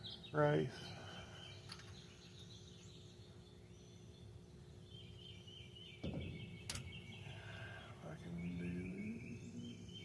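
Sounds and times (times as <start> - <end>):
birds chirping faintly: 0.0 - 10.0.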